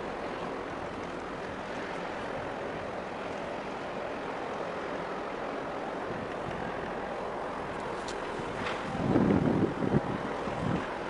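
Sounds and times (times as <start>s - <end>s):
choppy water: 0.0s - 11.0s.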